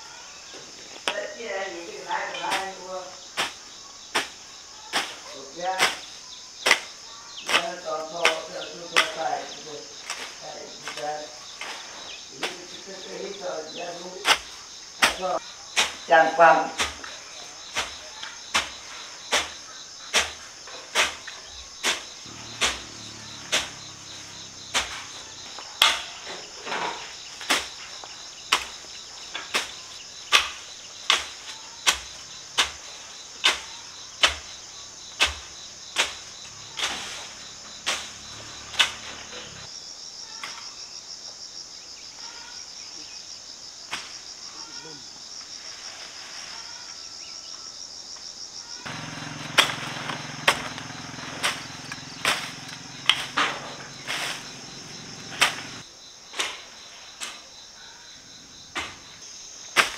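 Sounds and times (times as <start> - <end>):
chorus of insects: 0.0 - 59.9.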